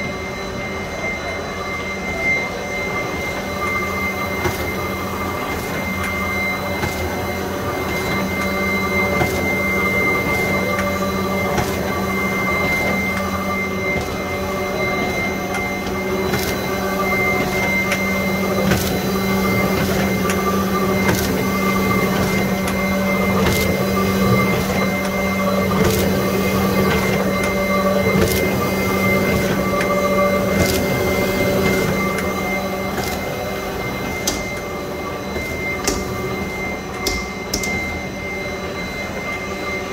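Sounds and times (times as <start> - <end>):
high steady whine: 0.0 - 39.9
printing press hum: 0.0 - 39.9.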